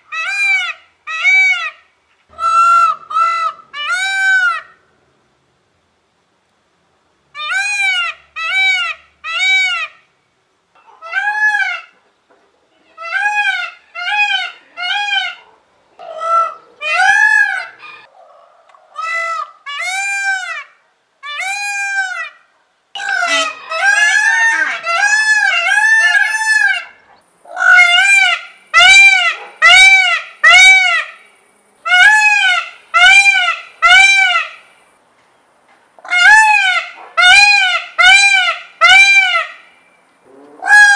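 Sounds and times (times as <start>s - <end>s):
peacock calling: 0.0s - 4.9s, 7.3s - 10.1s, 10.8s - 12.1s, 12.7s - 34.9s, 36.0s - 40.9s.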